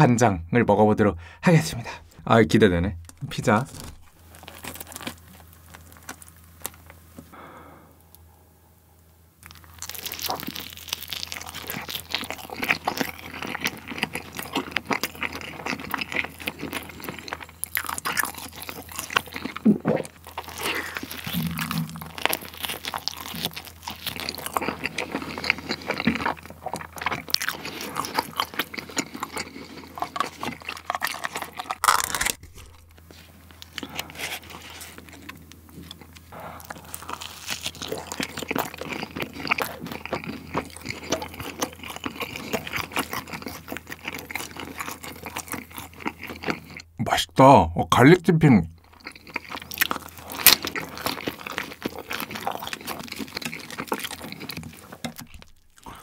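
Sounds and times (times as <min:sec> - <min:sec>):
biting and chewing pizza: 0:03.1 - 0:07.6, 0:09.4 - 0:47.0, 0:48.8 - 0:56.0.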